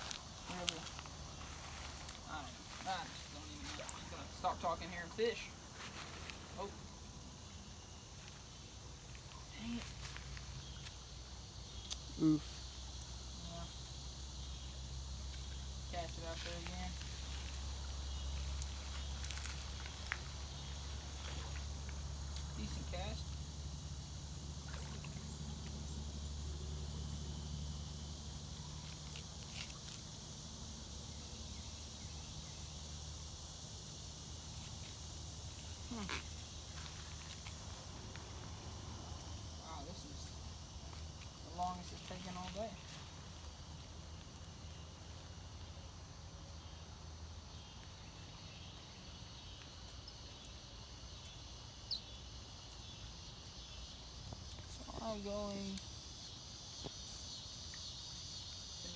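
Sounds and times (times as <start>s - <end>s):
high insect drone: 0.0s - 58.9s.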